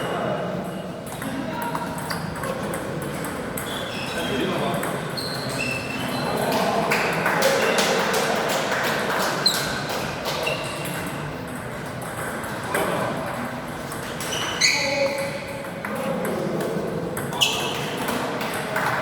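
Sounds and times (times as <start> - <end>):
murmur of busy hall: 0.0 - 19.0.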